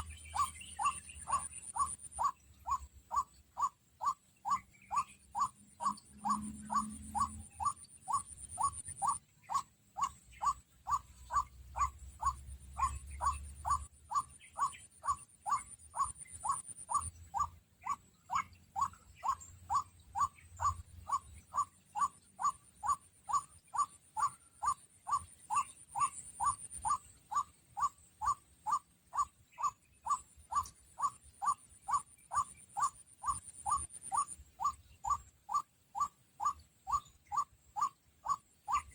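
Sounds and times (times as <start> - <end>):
waterhen calling: 0.0 - 38.9.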